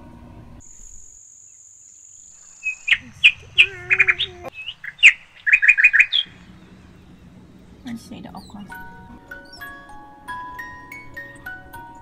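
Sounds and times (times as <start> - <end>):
songbird chirping: 0.6 - 12.0.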